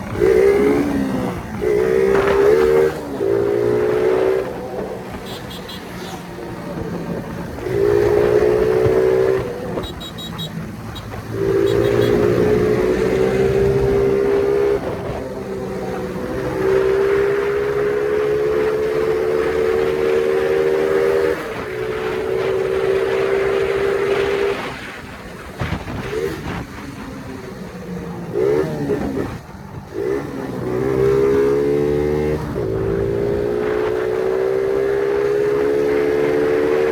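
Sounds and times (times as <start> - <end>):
small motorcycle engine droning: 0.0 - 36.9.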